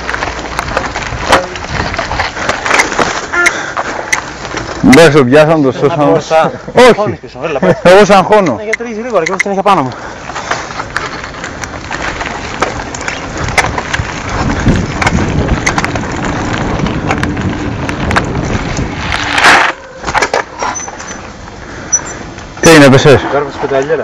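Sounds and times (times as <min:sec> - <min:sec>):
mountain bike rattling on rough trail: 0:00.0 - 0:24.0.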